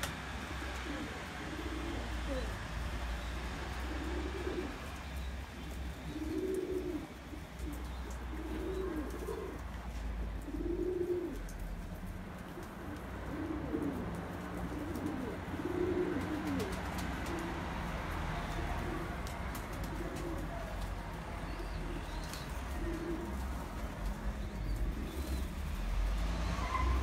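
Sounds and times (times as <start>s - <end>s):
pigeons cooing: 0.4s - 27.0s.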